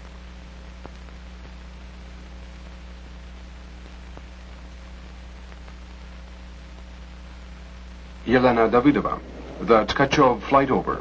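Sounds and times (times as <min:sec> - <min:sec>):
film soundtrack hiss: 0:00.0 - 0:11.0
low electrical hum: 0:00.0 - 0:11.0.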